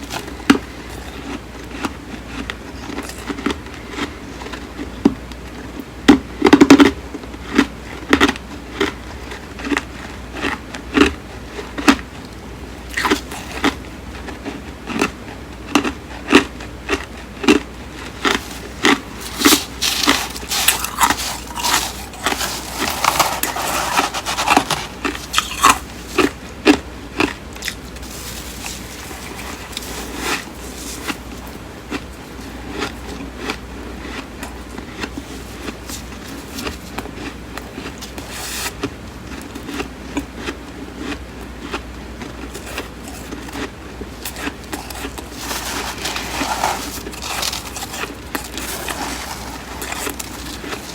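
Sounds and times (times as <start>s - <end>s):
chewing crunchy frost: 0.0s - 50.9s.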